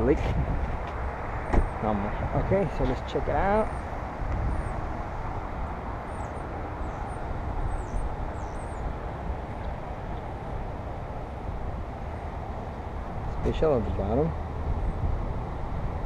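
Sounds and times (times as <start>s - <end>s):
low rumble with hiss: 0.0s - 16.0s.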